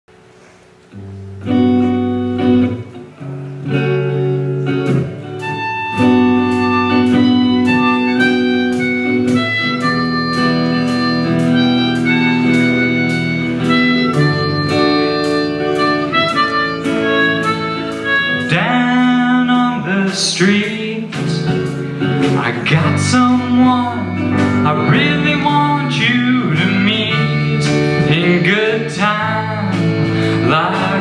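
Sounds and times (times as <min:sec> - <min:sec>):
accordion playing: 0:04.6 - 0:31.0.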